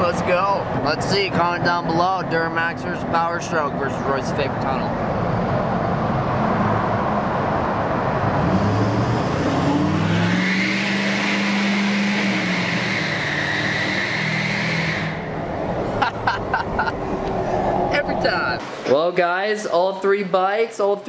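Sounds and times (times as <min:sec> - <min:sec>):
diesel truck engine accelerating: 0:00.0 - 0:18.6.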